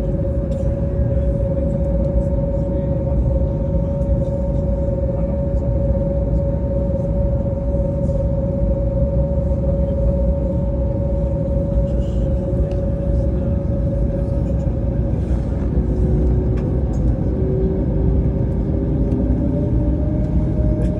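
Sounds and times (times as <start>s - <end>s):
constant humming tone: 0.0s - 20.9s
vehicle engine rumble inside: 0.0s - 20.9s.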